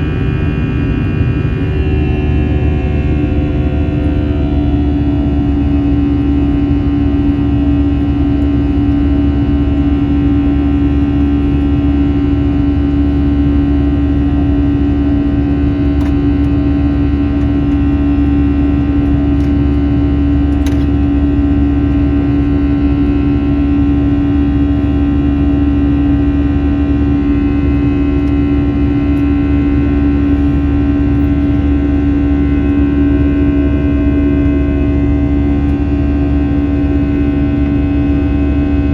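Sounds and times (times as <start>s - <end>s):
jet engines droning in cabin: 0.0s - 38.9s.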